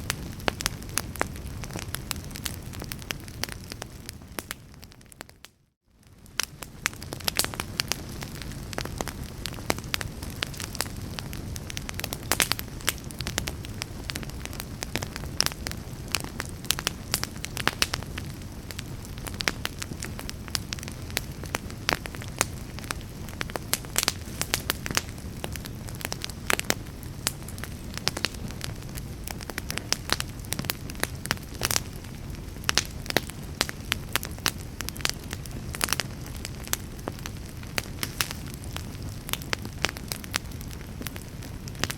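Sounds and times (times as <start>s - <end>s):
fire pops and snaps: 0.0s - 41.9s
rush of burning fire: 0.0s - 41.9s.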